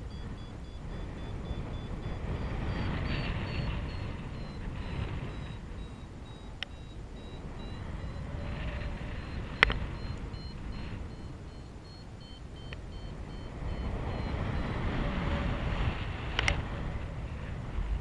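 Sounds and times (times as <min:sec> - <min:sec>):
variometer short high beeps: 0:00.0 - 0:14.8
wind rushing over microphone: 0:00.0 - 0:18.0.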